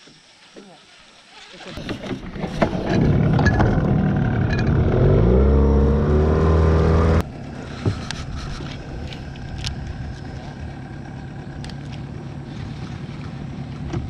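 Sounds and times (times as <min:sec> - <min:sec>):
outboard motor running: 0:01.3 - 0:14.0.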